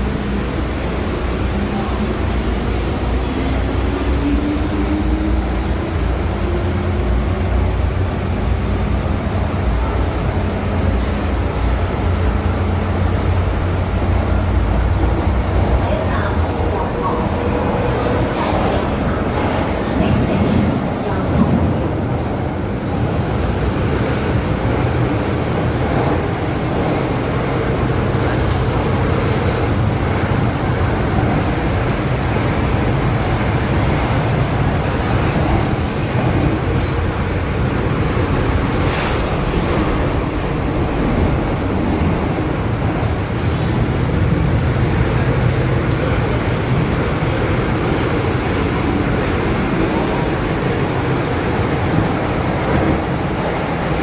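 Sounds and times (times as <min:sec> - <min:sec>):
metro train rumbling: 0:00.0 - 0:54.0.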